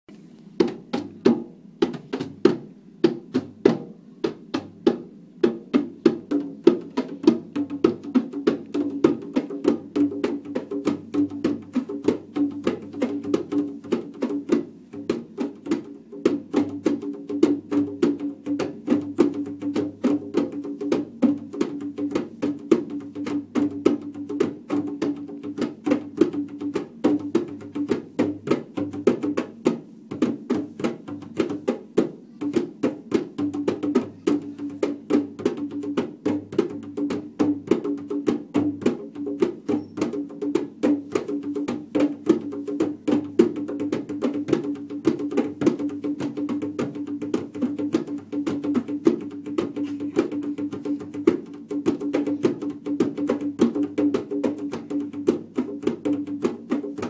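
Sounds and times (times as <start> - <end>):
djembe slaps and tones: 0.4 - 57.0.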